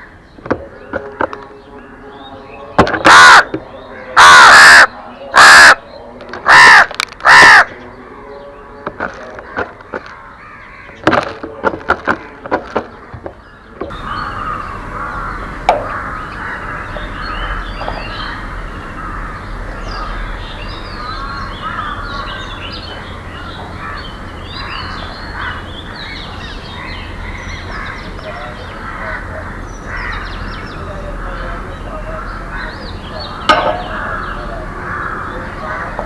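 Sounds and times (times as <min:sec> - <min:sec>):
small birds chirping: 0:00.0 - 0:36.0
loud caws: 0:02.8 - 0:07.9, 0:09.0 - 0:11.2, 0:13.5 - 0:36.0.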